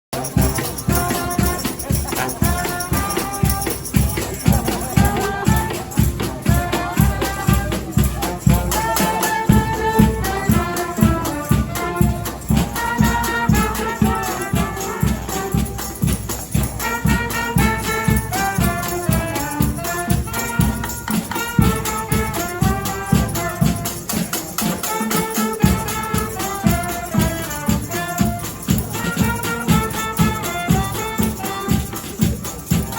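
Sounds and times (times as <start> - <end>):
marching band playing: 0.1 - 32.9
steady drum beat: 0.1 - 32.9.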